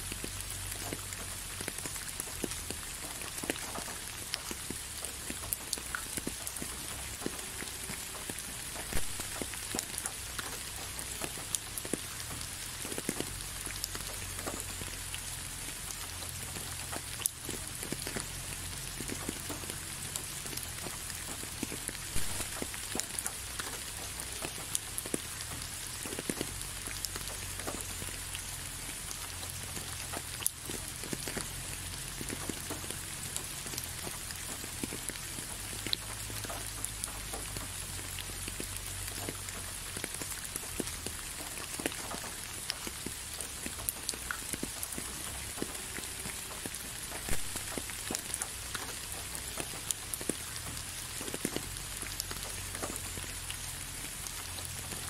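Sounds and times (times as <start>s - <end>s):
raindrops tapping close by: 0.0s - 55.0s
steady rain falling: 0.0s - 55.0s.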